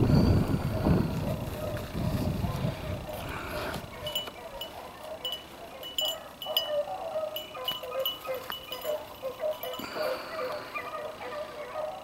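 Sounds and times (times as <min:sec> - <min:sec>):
dogs baying: 0:00.6 - 0:12.0.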